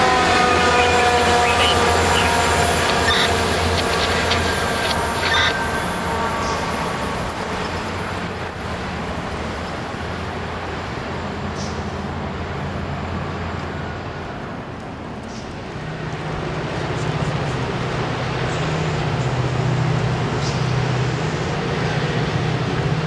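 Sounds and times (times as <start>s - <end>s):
locomotive engine rumble: 0.0s - 23.0s
rail noise: 0.0s - 23.0s.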